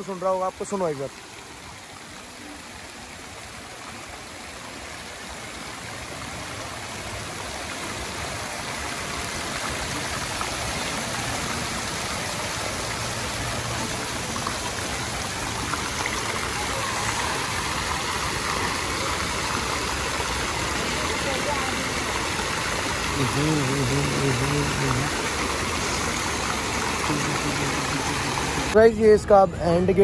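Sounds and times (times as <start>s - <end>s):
flowing water: 0.0s - 30.0s.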